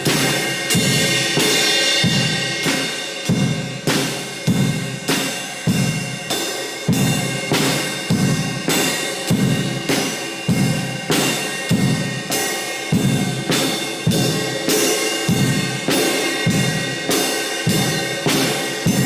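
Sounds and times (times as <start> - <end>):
muffled drums beat: 0.0 - 19.0
ringing cymbals: 0.0 - 19.0.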